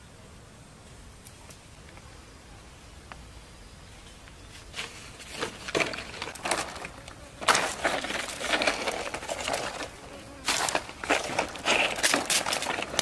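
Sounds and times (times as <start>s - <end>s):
crackling and rustling of leaves: 0.8s - 13.0s.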